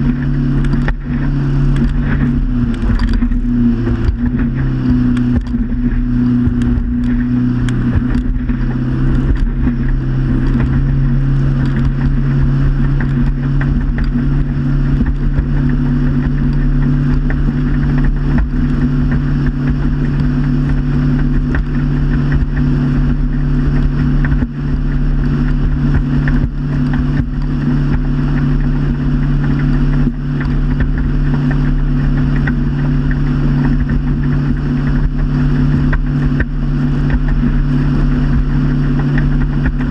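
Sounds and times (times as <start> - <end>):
motorboat engine running: 0.0 - 39.9
rushing water: 0.0 - 39.9.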